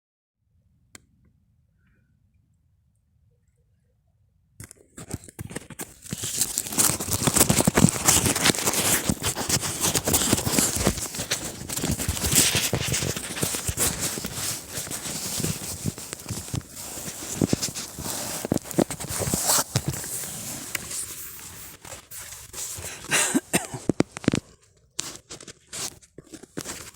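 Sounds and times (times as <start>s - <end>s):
close rustling and crackling: 4.8s - 26.9s.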